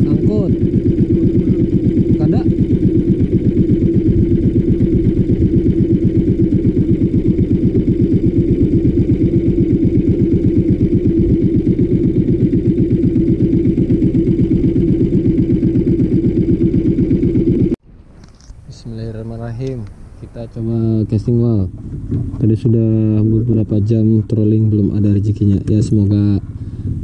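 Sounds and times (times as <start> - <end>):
boat motor running: 0.0 - 17.8, 18.7 - 27.0.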